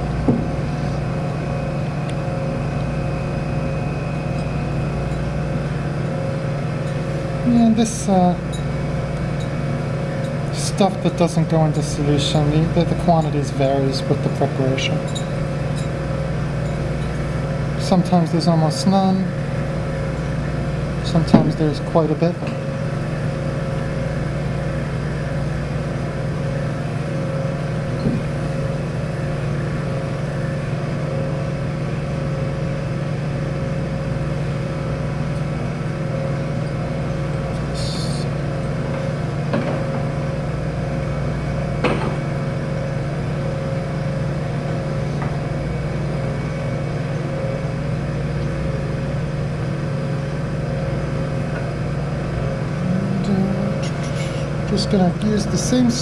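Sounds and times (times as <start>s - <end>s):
machinery hum with tone: 0.0s - 56.0s.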